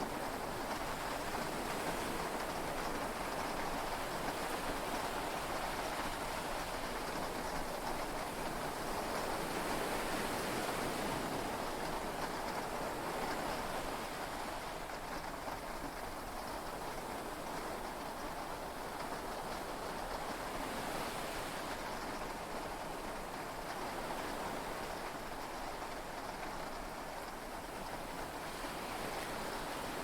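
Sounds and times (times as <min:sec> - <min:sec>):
heavy rain on a cabin roof: 0:00.0 - 0:30.0.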